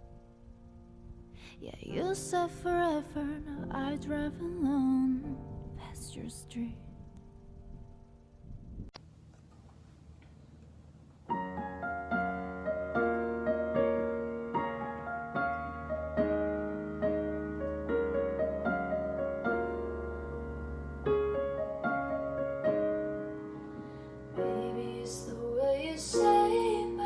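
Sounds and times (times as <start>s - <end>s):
slow piano music: 0.0s - 8.9s, 11.2s - 27.0s.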